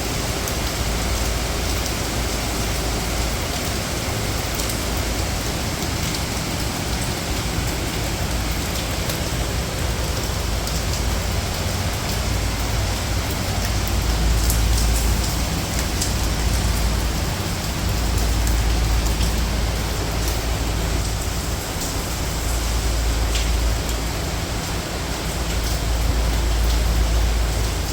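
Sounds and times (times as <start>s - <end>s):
rain falling: 0.0s - 27.9s.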